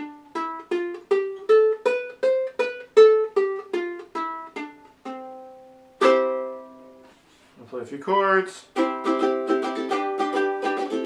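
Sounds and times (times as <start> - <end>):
ukulele chord strummed: 0.0 - 7.1, 8.7 - 11.0
ukulele notes plucked: 0.0 - 7.1, 8.7 - 11.0.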